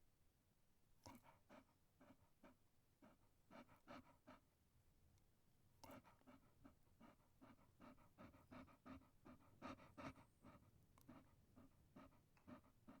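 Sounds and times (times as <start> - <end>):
dog panting: 1.1 - 4.5, 5.8 - 13.0.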